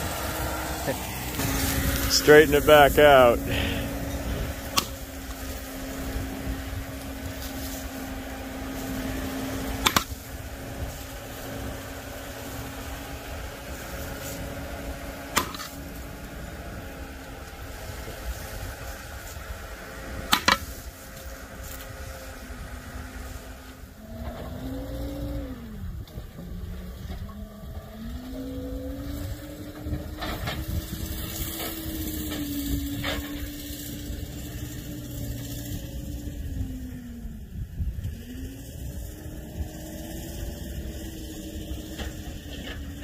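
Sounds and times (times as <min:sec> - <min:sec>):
steady mechanical hum: 0:00.0 - 0:43.0.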